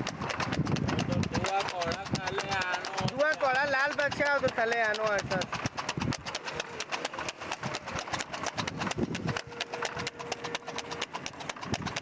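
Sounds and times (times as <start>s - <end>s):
hooves clattering on pavement: 0.0s - 12.0s.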